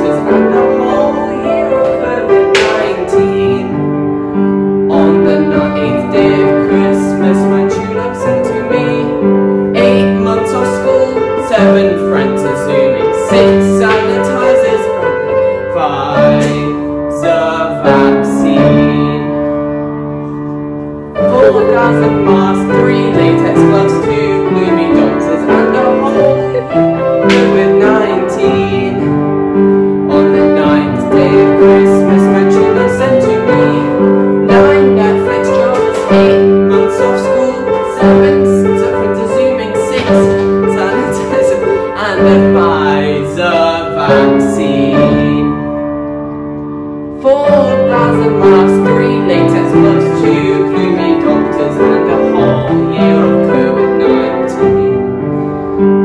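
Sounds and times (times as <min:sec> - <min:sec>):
upright piano tune: 0:00.0 - 0:56.0.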